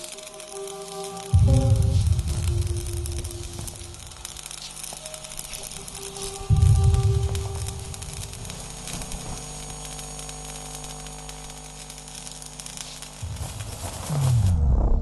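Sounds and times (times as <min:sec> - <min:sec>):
electrical sparking crackle: 0:00.0 - 0:15.0
loud electrical burst: 0:00.0 - 0:15.0
low electrical hum: 0:00.0 - 0:15.0.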